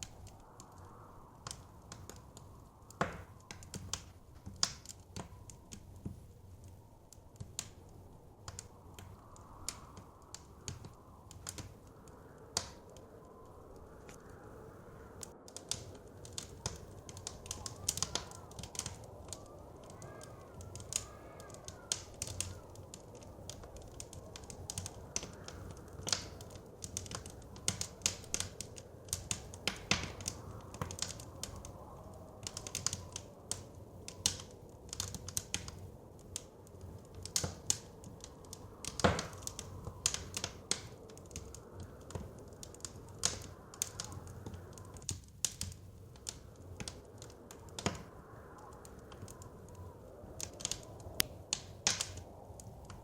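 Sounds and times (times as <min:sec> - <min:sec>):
faint wavering wind whistle: 0:00.0 - 0:45.1, 0:45.8 - 0:53.0
blizzard wind rushing: 0:00.0 - 0:53.0
wood fire crackling and popping: 0:00.0 - 0:53.0.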